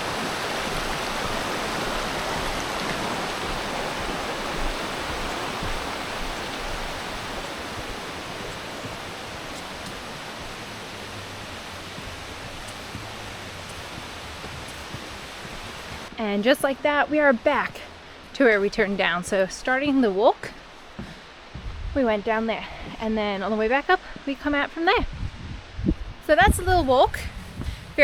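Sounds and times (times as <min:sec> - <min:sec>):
waterfall rushing water: 0:00.0 - 0:23.0.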